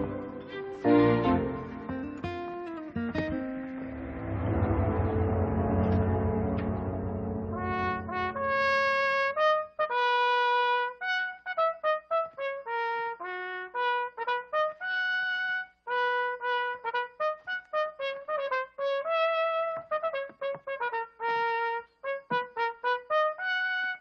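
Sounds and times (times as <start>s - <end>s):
trumpet solo melody: 0.0s - 2.5s, 4.4s - 24.0s.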